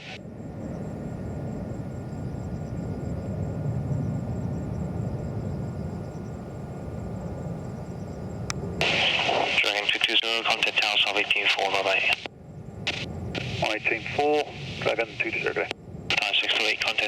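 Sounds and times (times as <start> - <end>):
jet plane taking off: 0.0 - 17.0.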